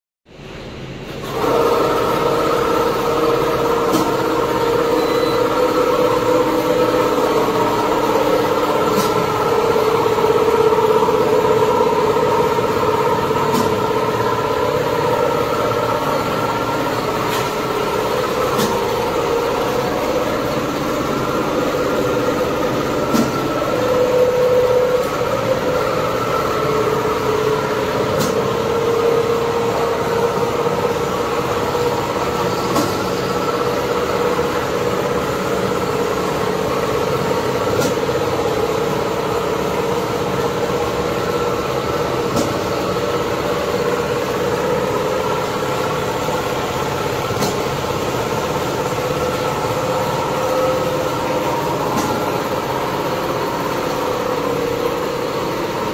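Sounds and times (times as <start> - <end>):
sewing machine humming: 1.1 - 55.9.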